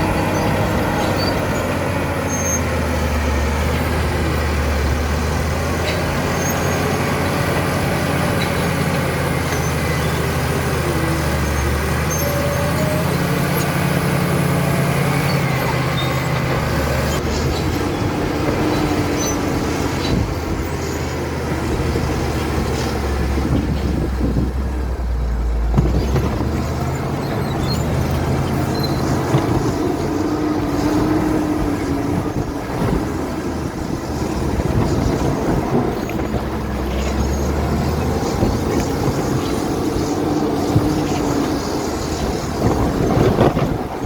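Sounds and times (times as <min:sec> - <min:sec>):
bulldozer diesel engine working: 0:00.0 - 0:44.0.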